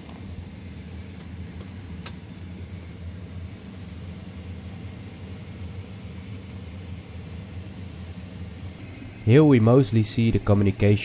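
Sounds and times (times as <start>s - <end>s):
machinery hum with airy hiss: 0.0s - 11.0s.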